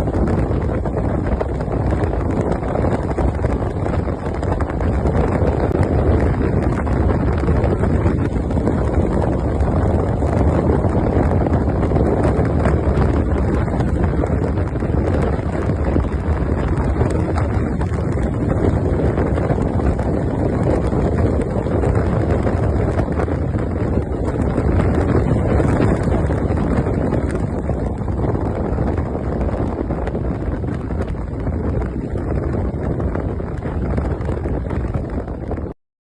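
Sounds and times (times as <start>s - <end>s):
low rumble of engine and road: 0.0s - 35.7s
wind buffeting microphone: 0.0s - 35.8s.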